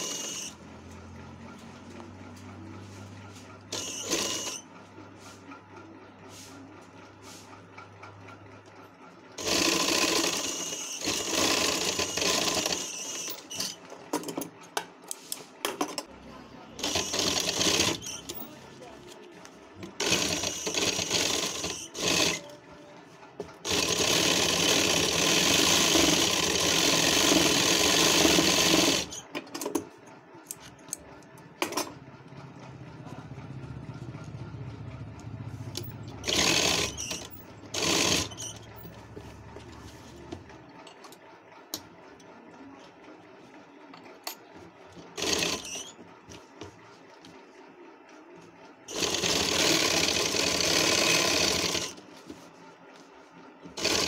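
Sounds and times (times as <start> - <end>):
sewing machine stitching: 0.0 - 14.7, 16.7 - 19.1, 19.8 - 29.9, 30.5 - 42.3, 44.2 - 46.7, 48.8 - 52.2, 53.6 - 54.0.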